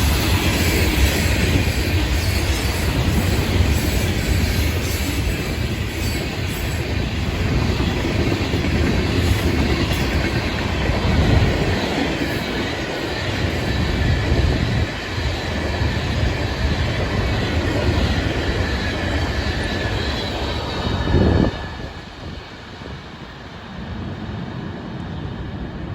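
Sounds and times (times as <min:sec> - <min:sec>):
freight train wheels clattering: 0:00.0 - 0:22.6.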